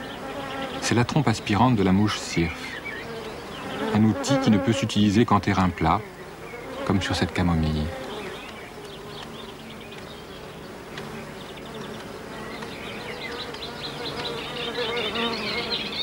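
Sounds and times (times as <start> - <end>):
insect wings buzzing: 0.0 - 16.0.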